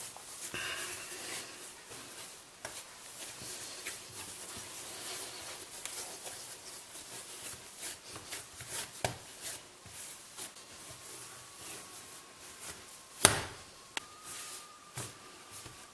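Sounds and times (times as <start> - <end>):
hands rubbing and patting dough: 0.0 - 15.9.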